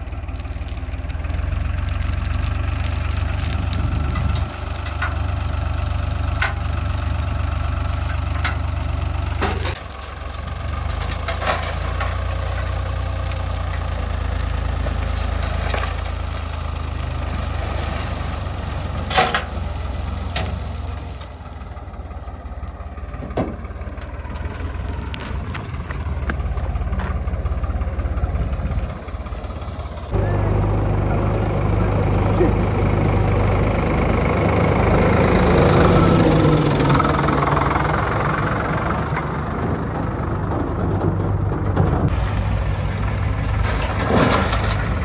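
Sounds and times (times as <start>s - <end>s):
diesel machinery engine running: 0.0s - 45.0s.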